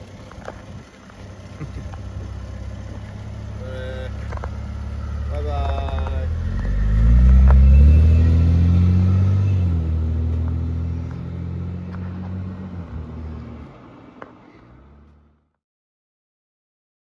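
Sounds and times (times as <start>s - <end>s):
car engine accelerating: 0.0s - 15.6s.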